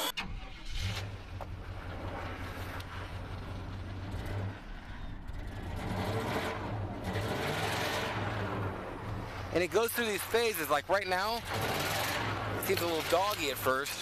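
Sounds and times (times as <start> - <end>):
pickup engine idling: 0.0 - 14.0.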